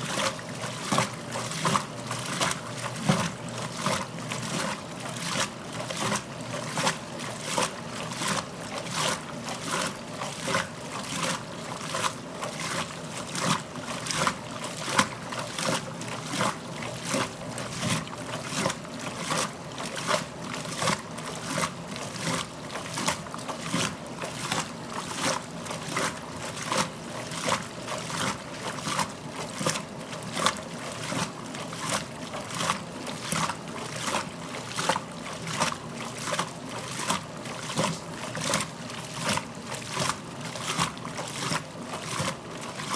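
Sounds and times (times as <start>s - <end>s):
washing machine sloshing water: 0.0s - 42.9s.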